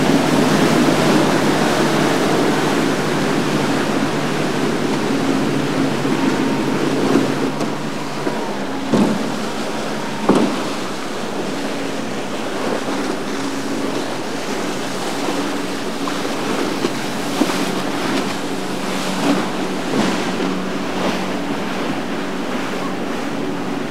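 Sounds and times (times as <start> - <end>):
outboard engine drone: 0.0 - 23.9
water churning and splashing: 0.0 - 23.9
water slapping: 0.0 - 23.9
wind buffeting microphone: 0.0 - 23.9.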